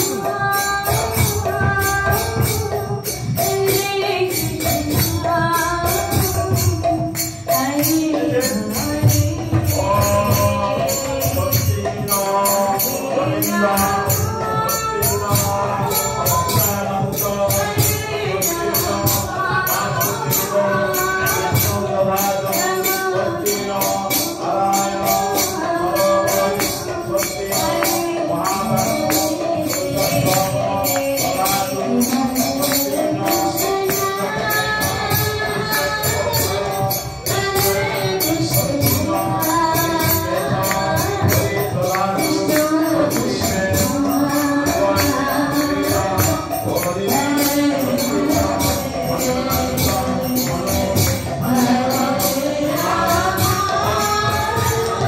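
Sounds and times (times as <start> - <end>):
jingling hand cymbals: 0.0 - 55.0
voices singing a chant: 0.0 - 55.0.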